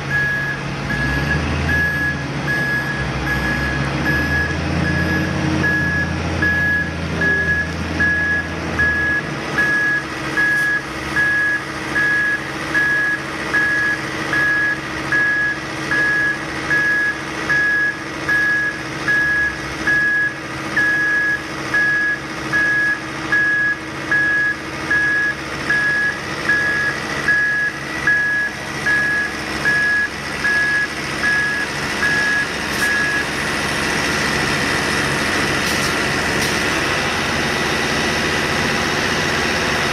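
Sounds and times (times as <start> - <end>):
vehicle engine running: 0.0 - 39.9
backup alarm beeping: 0.1 - 33.3.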